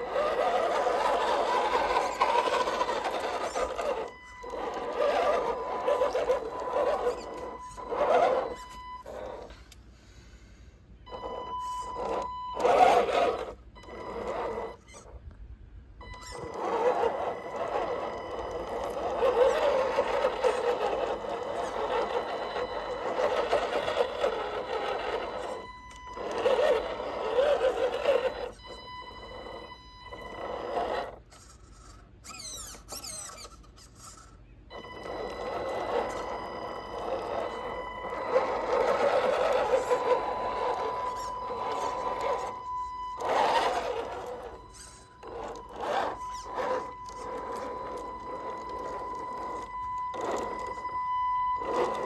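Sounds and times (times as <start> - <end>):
toy truck motor whining: 0.0 - 15.4, 16.0 - 52.0
thin high steady whine: 0.0 - 52.0.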